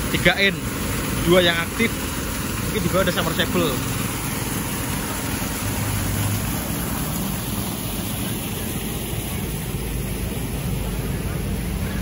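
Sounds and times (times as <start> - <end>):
water gushing: 0.0 - 12.0
water pump engines running: 0.0 - 12.0.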